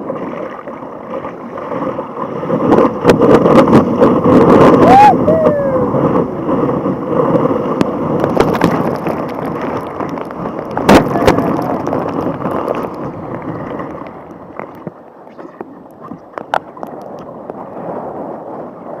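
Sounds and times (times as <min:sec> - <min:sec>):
rushing water: 0:00.0 - 0:19.0
wind noise: 0:00.0 - 0:19.0.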